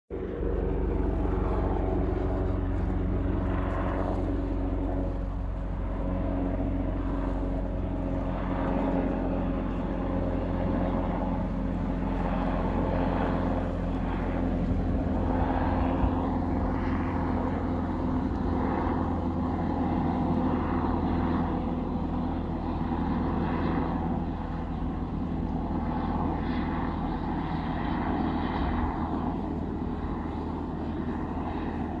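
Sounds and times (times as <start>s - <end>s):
helicopter rotor drone: 0.1s - 32.0s.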